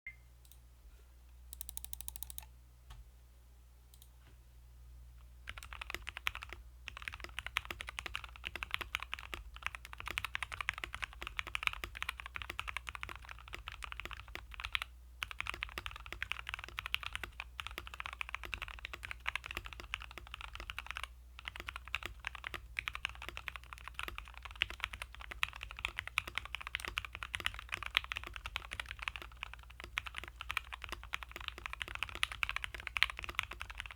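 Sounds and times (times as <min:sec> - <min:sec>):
mechanical keyboard typing: 0:01.5 - 0:02.5, 0:05.5 - 0:33.9.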